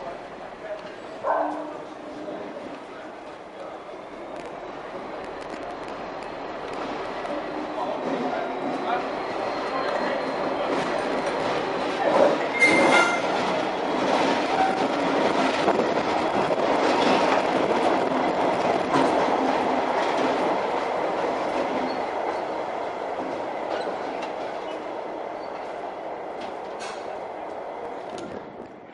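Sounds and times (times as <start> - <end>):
diesel locomotive engine: 0.0 - 28.9.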